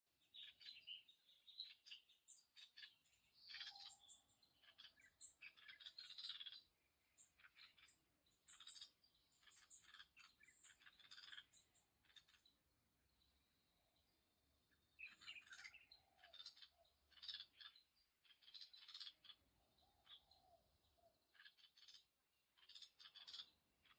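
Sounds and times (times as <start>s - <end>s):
songbirds chirping: 0.1s - 23.9s.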